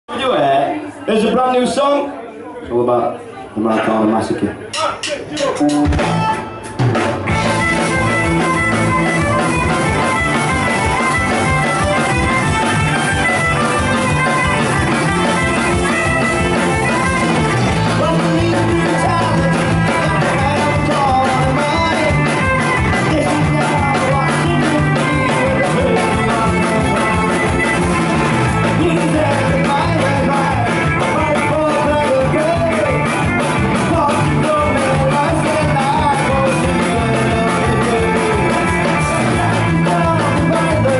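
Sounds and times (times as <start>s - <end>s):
folk-punk band playing live: 4.6s - 40.9s.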